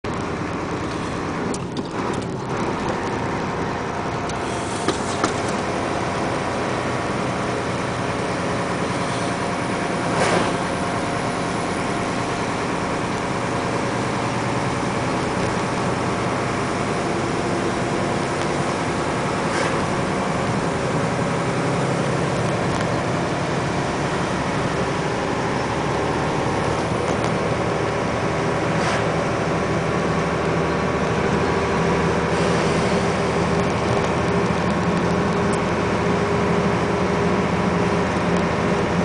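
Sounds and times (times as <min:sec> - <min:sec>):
truck engine and road noise: 0:00.0 - 0:39.0.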